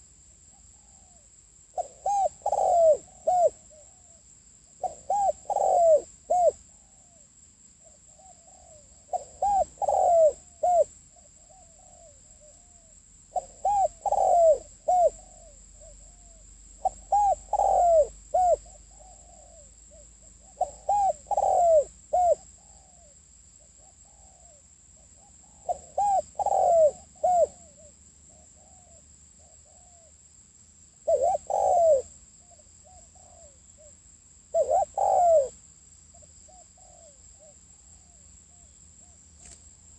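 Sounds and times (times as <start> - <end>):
dove cooing: 1.8 - 4.2, 4.8 - 7.2, 7.8 - 23.2, 25.2 - 30.1, 31.0 - 33.9, 34.5 - 38.7.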